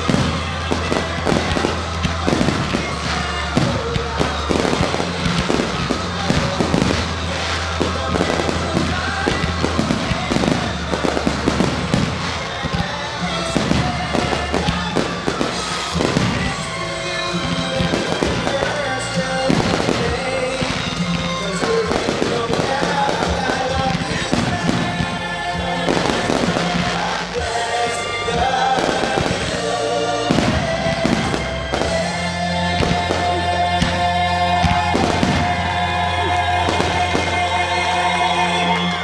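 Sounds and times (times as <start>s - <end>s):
crackling firework stars: 0.0s - 39.0s
music: 0.0s - 39.0s.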